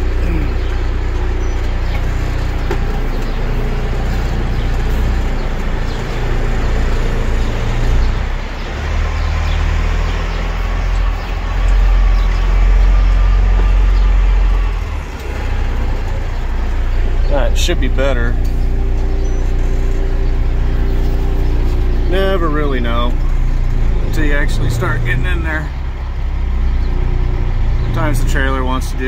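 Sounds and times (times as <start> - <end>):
diesel truck engine under load: 0.0 - 29.0.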